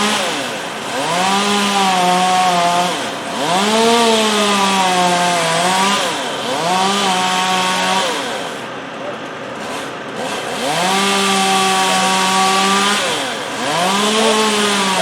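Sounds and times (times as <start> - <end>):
chainsaw revving: 0.0 - 8.7, 9.3 - 15.0.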